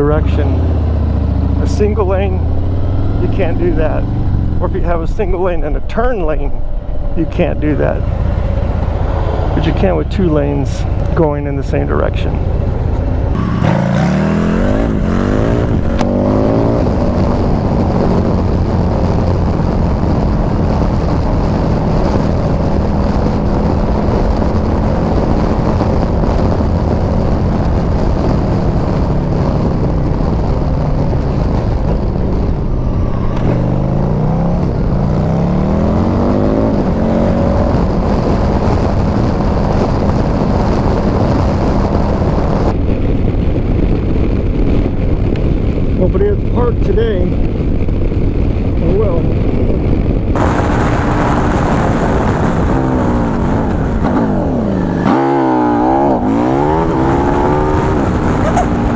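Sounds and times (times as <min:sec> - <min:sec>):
motorcycle engine accelerating: 0:00.0 - 0:58.9
wind rushing over microphone: 0:00.0 - 0:58.9.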